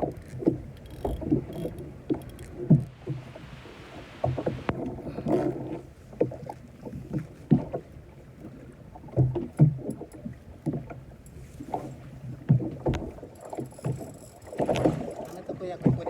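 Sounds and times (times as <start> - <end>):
knocks and thumps on fishing boat: 0.0 - 8.0, 9.0 - 16.0.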